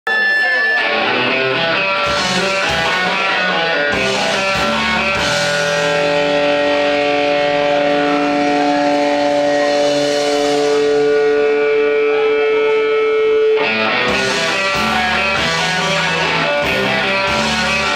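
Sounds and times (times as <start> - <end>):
rock music with electric guitar: 0.1 - 17.9.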